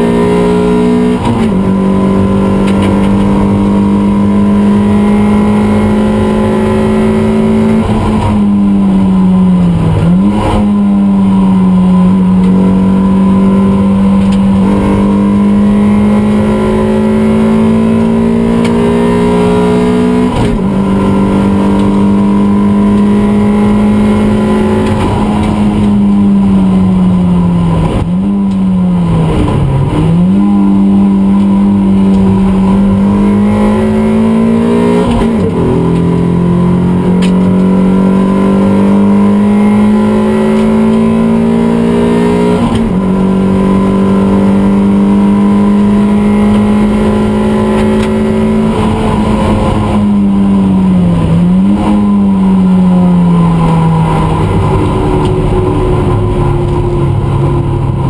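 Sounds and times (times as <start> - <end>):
race car engine at high revs: 0.0 - 58.0
road and wind noise: 0.0 - 58.0.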